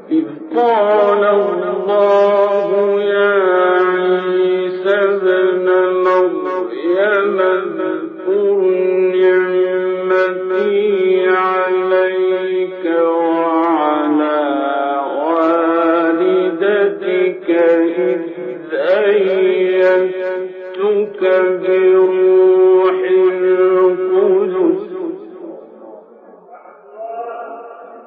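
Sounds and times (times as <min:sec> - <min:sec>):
man reciting melodically: 0:00.0 - 0:28.0.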